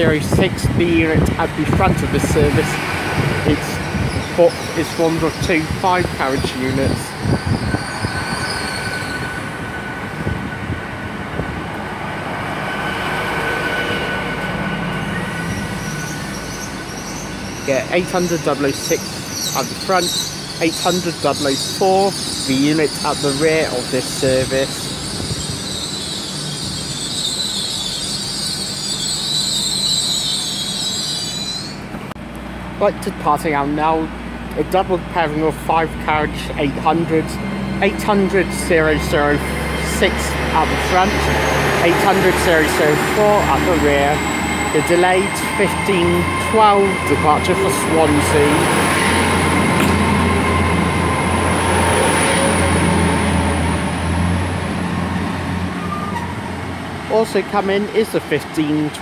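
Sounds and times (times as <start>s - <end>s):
train high-pitched whine: 0.0s - 32.0s, 33.7s - 56.7s.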